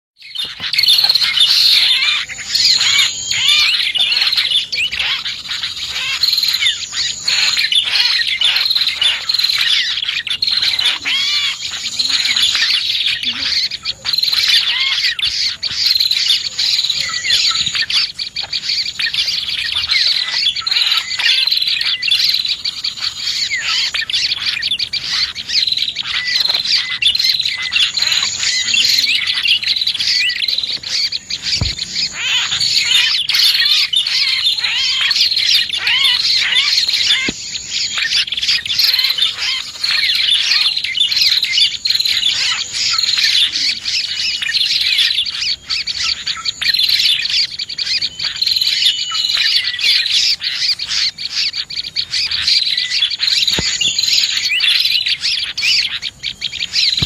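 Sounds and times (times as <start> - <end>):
small songbirds chirping: 0.2 - 57.0.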